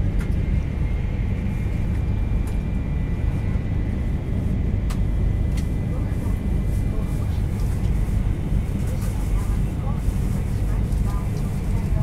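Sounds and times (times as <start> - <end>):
train interior rumble with whine: 0.0 - 12.0.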